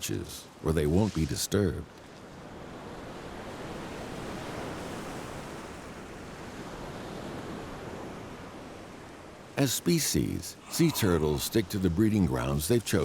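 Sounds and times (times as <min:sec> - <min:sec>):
surf washing on a beach: 0:00.0 - 0:13.0.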